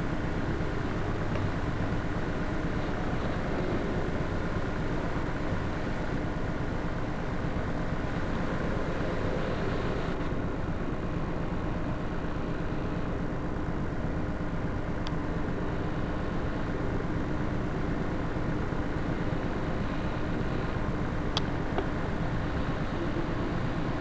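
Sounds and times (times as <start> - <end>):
faint constant hum: 0.0 - 24.0
steady rumbling noise: 0.0 - 24.0.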